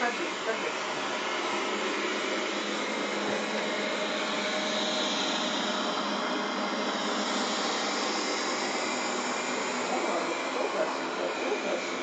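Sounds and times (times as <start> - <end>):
robot vacuum cleaner whirring: 0.0 - 12.0.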